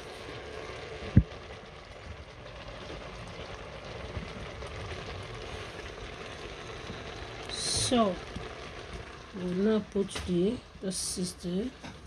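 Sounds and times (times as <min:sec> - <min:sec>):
tomatoes sizzling in oil: 0:00.0 - 0:12.0.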